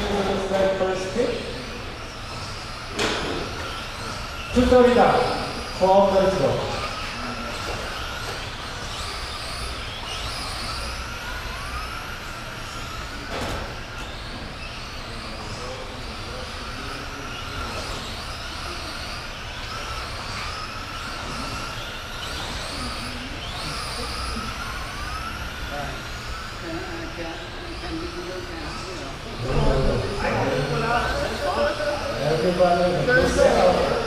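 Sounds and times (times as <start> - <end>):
electric motors whining: 0.0 - 34.0.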